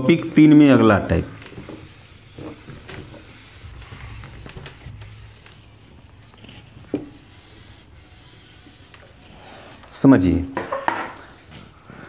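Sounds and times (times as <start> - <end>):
duster rubbing whiteboard: 0.0 - 10.5.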